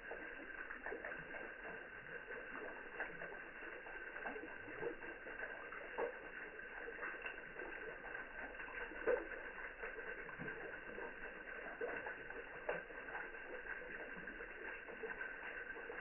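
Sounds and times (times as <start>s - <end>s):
water drips and plinks: 0.0s - 16.0s
water trickling down a wall: 0.0s - 16.0s.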